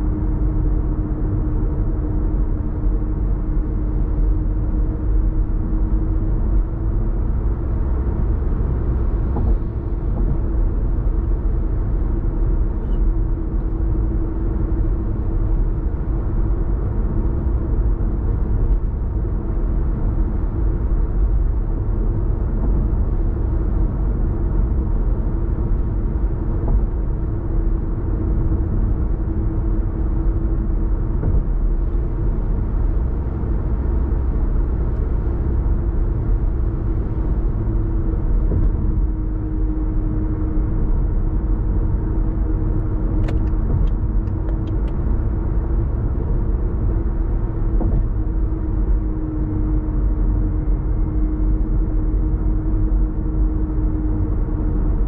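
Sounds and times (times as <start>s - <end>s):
car engine drone: 0.0s - 55.0s
steady low hum: 0.0s - 55.0s.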